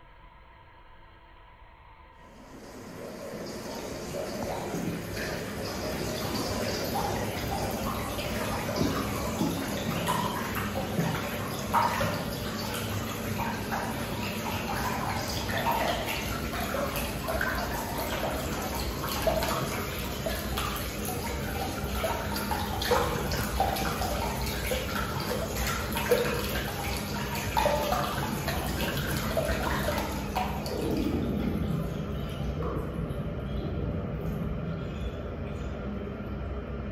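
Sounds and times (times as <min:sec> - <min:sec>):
water rushing down a urinal: 0:02.3 - 0:34.9.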